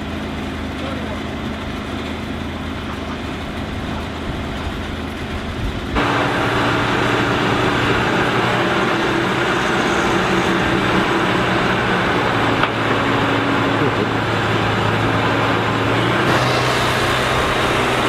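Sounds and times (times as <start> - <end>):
large engine running: 0.0 - 18.0.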